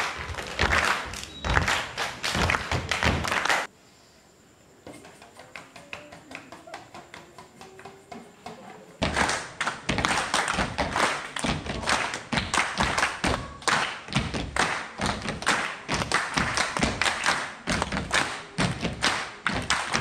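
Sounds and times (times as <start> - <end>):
hand claps and thumps: 0.0 - 3.7, 5.0 - 20.0.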